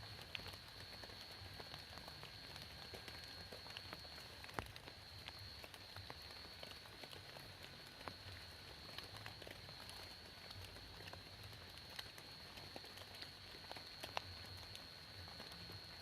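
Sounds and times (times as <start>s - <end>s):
raindrops tapping: 0.0s - 16.0s
steady high-pitched whine: 0.0s - 16.0s.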